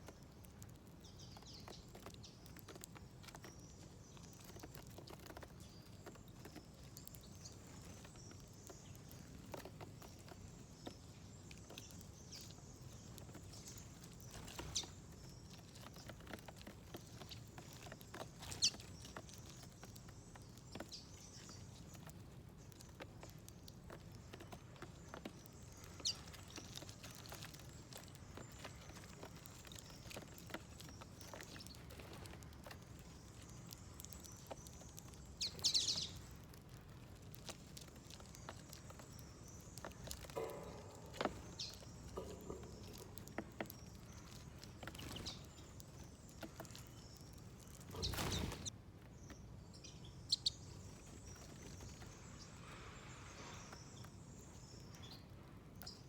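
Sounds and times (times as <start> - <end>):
birds pecking seeds: 0.0 - 56.0.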